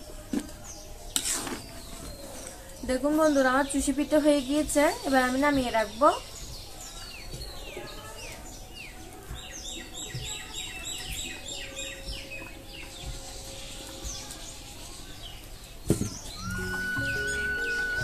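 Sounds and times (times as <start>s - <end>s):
small birds singing: 0.0s - 18.0s.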